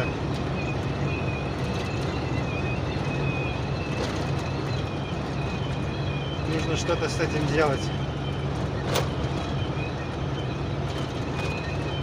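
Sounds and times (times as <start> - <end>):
engine drone: 0.0 - 12.0
high-pitched wind whistle: 0.0 - 12.0
road noise: 0.0 - 12.0.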